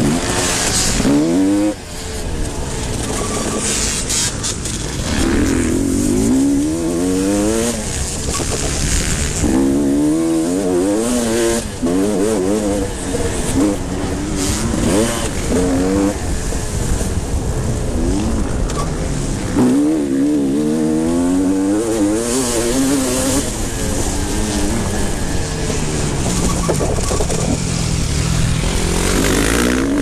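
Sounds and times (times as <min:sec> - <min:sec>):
motocross bikes revving: 0:00.0 - 0:30.0.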